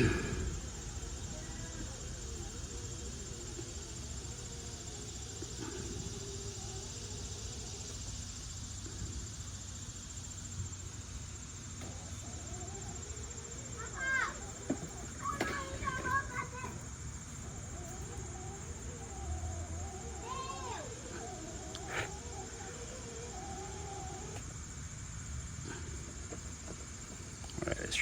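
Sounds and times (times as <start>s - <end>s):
high-pitched insect trill: 0.0s - 28.0s
low background hum: 0.0s - 28.0s.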